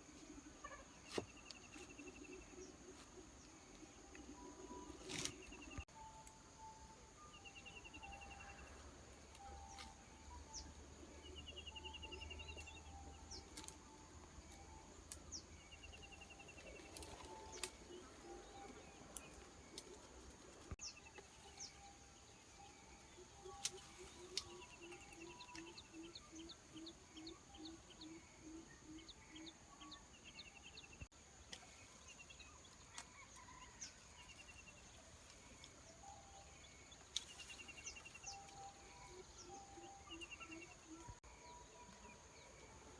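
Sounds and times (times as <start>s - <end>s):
low evenly spaced bird notes: 1.4s - 31.2s, 31.8s - 42.9s.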